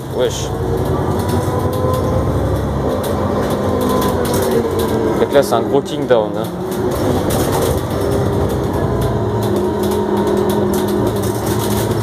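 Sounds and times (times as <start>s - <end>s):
bus engine pulling hard: 0.0s - 12.0s.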